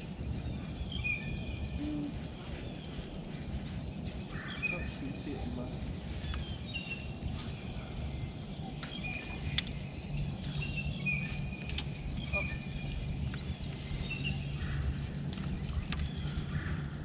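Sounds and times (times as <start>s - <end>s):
songbirds calling: 0.0s - 17.0s
steady low hum: 0.0s - 17.0s.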